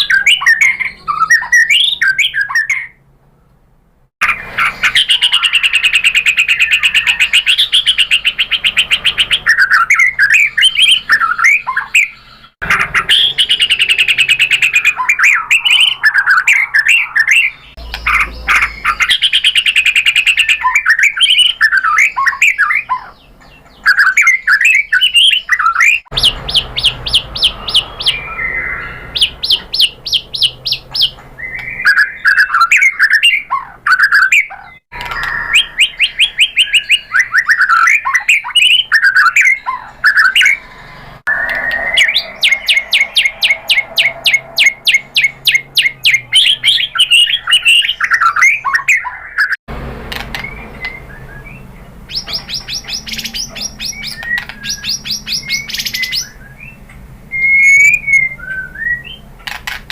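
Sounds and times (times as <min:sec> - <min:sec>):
bird singing trills and whistles: 0:00.0 - 0:03.0, 0:04.2 - 0:49.6, 0:50.3 - 0:59.7.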